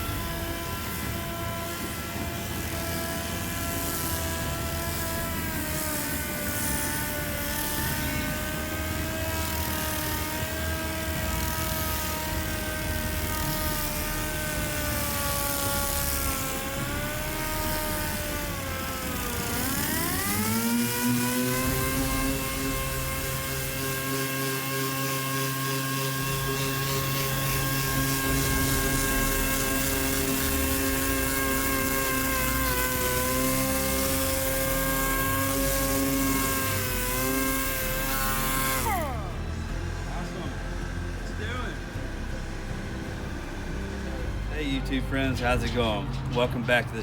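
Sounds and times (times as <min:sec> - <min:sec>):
air grinder whining: 0:00.0 - 0:47.0.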